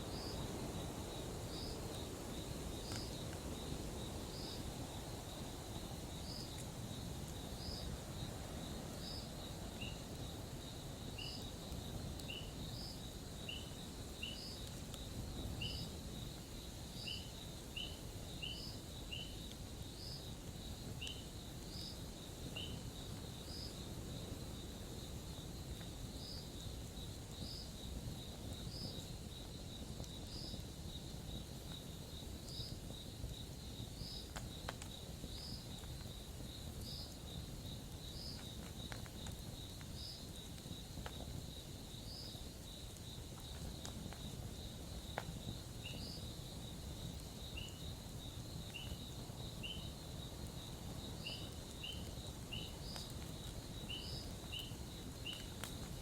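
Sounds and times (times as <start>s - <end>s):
low steady hiss: 0.0s - 56.0s
insects trilling: 0.1s - 56.0s
campfire snapping: 1.4s - 4.6s, 5.9s - 8.1s, 9.0s - 17.0s, 19.4s - 56.0s.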